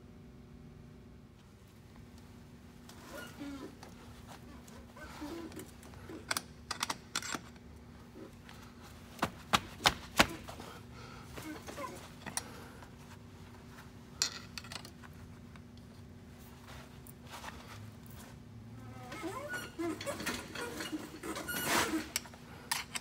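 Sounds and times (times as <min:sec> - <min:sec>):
steady low hum: 0:00.0 - 0:21.4.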